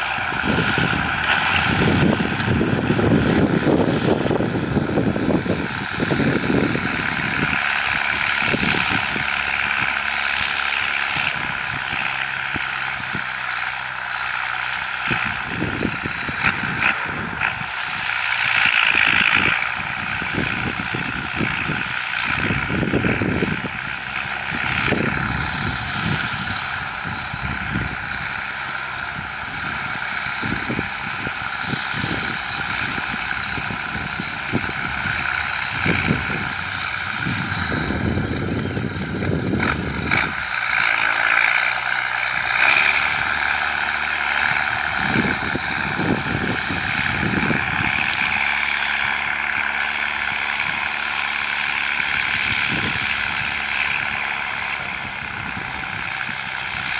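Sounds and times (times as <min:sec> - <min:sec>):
wind gusts on microphone: 0:00.0 - 0:13.6, 0:14.3 - 0:40.8, 0:42.3 - 0:56.9
tractor diesel engine under load: 0:00.0 - 0:56.9.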